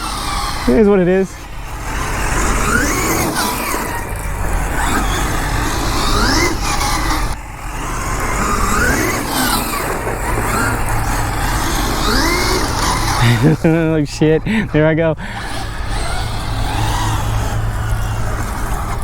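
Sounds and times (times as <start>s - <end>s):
rc car motor whining: 0.0s - 19.0s
tyre and wind noise: 0.0s - 19.0s.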